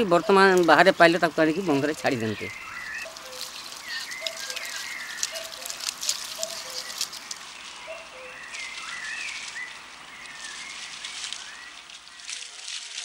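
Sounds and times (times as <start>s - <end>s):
birds chirping: 0.0s - 12.7s
light water splashing: 0.0s - 13.0s.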